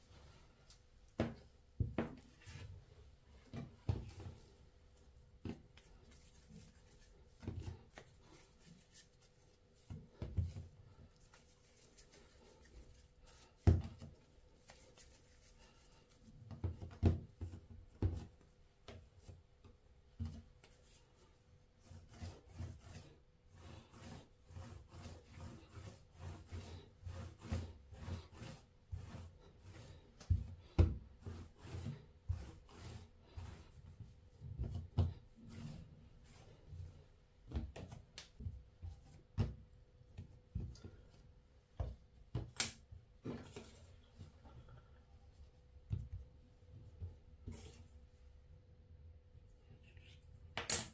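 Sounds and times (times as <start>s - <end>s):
hands rolling dough on board: 1.1s - 2.7s, 3.4s - 21.0s, 21.8s - 47.8s.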